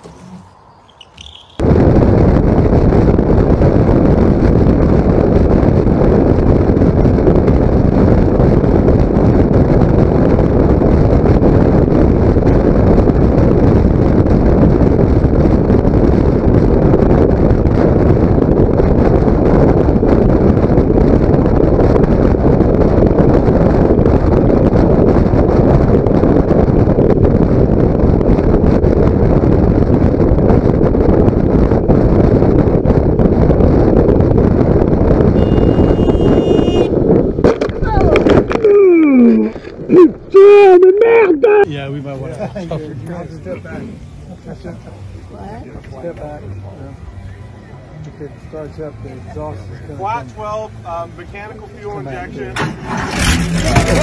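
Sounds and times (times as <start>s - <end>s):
motorcycle ride noise: 0.0s - 54.0s
wind rushing over microphone: 0.0s - 54.0s.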